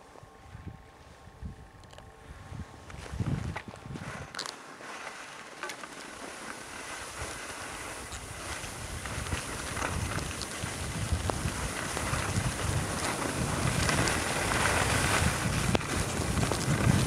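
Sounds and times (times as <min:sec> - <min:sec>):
wind buffeting microphone: 0:00.0 - 0:04.4, 0:06.6 - 0:17.0
skis scraping over snow: 0:02.3 - 0:17.0.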